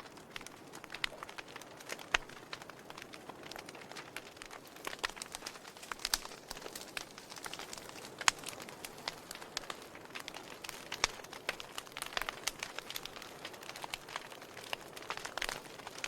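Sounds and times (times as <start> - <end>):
logs crackling in a fireplace: 0.0 - 16.0.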